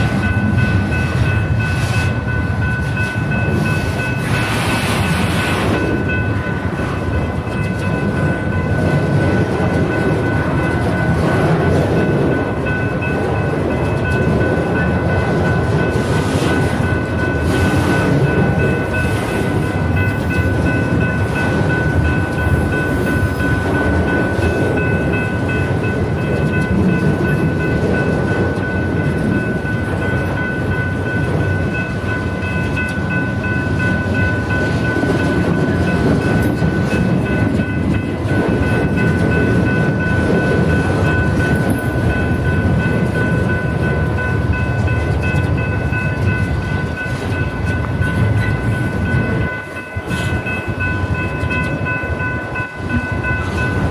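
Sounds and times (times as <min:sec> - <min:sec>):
freight train rumbling: 0:00.0 - 0:53.9.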